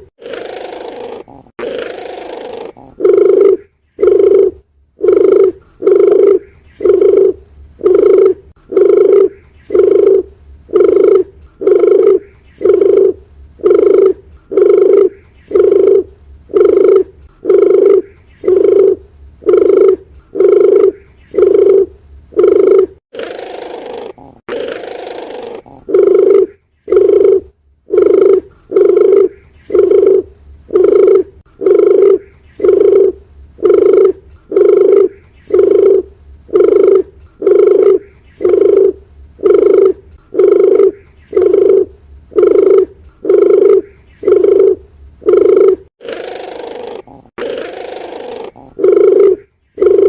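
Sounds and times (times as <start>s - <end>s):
dove cooing: 0.0s - 50.0s
rough dove call: 0.0s - 50.0s.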